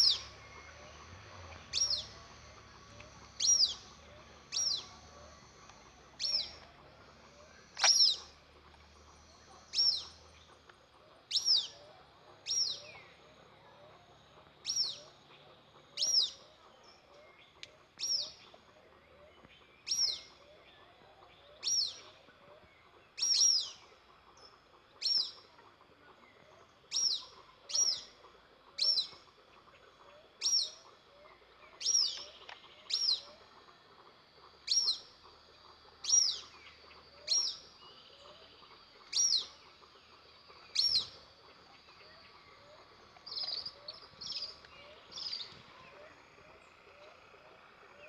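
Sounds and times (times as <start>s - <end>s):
bird chirping: 0.0s - 48.0s.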